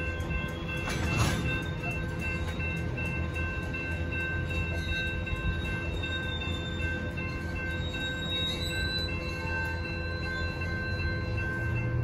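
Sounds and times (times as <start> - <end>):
crossing signal bell ringing: 0.0 - 12.0
train wheels rumbling on rail: 0.0 - 12.0.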